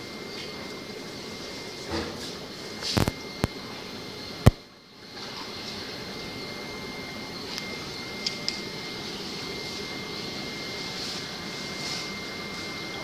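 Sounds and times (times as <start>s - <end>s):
aquarium air pumps and filters humming: 0.0s - 13.0s
thin high whine: 0.0s - 13.0s.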